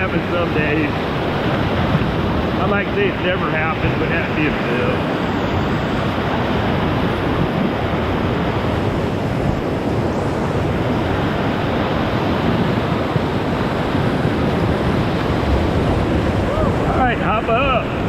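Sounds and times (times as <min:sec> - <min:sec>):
whitewater rapids rushing: 0:00.0 - 0:18.0
wind on microphone: 0:00.0 - 0:18.0.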